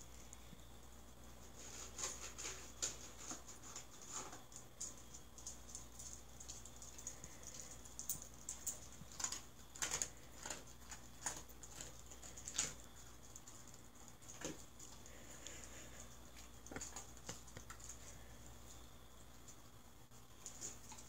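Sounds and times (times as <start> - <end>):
dog crunching dry kibble: 1.6 - 18.8.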